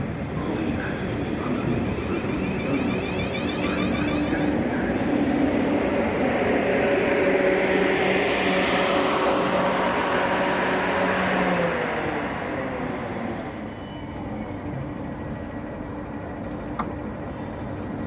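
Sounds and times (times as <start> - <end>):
faint motor hum: 0.0 - 18.0
train rumble and hiss: 0.0 - 18.0.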